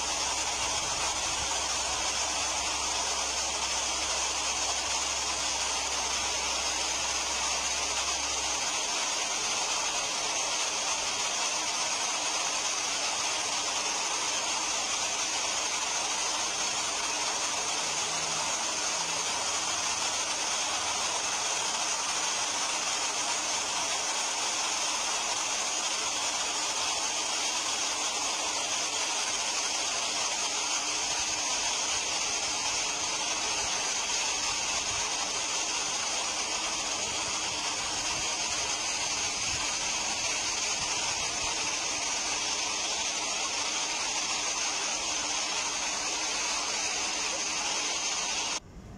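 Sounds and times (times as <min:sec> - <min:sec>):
river water rushing over weir: 0:00.0 - 0:48.6.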